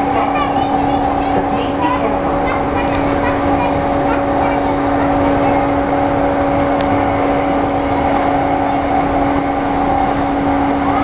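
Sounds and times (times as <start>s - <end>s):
low running rumble: 0.0s - 11.0s
train electrical hum: 0.0s - 11.0s.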